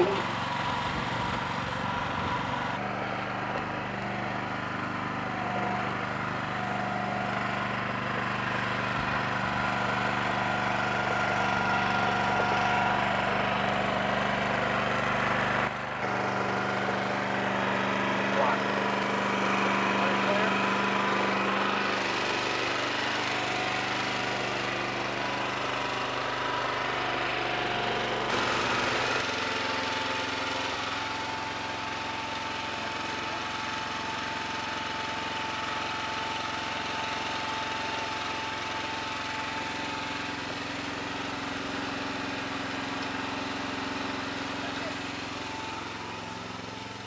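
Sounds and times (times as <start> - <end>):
small gasoline engine running: 0.0 - 47.0.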